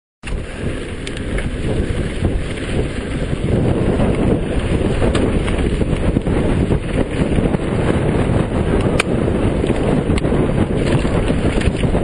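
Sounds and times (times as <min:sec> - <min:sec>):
wind buffeting microphone: 0:00.2 - 0:12.0.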